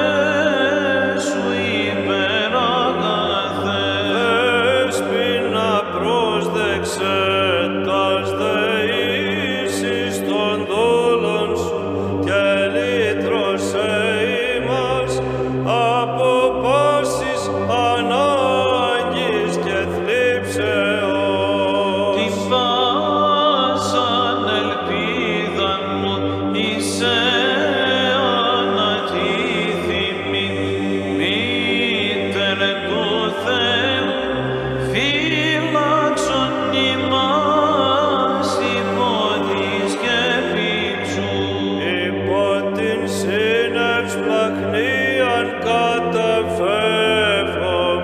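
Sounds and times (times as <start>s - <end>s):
low held vocal drone: 0.0s - 48.0s
man chanting a hymn: 0.0s - 48.0s.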